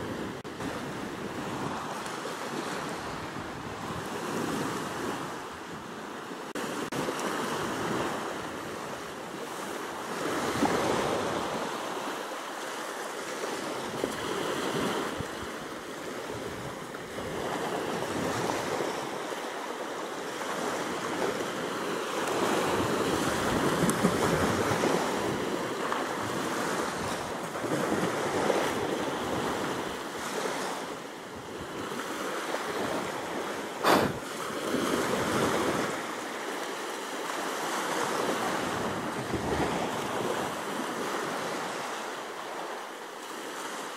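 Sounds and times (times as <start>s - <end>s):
waves washing onto beach: 0.0s - 43.9s.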